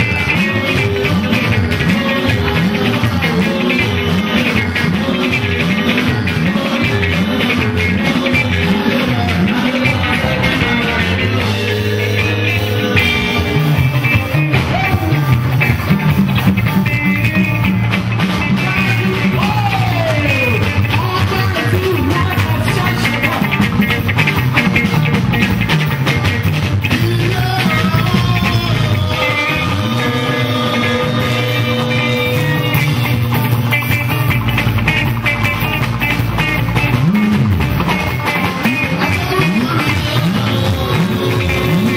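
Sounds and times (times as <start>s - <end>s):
bass line and beat: 0.0s - 41.9s
electric guitars: 0.0s - 41.9s
people singing: 0.0s - 41.9s.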